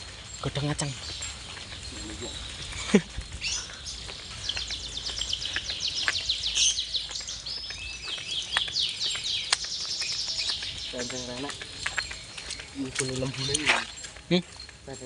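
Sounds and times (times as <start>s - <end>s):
birds chirping in chorus: 0.0s - 15.0s.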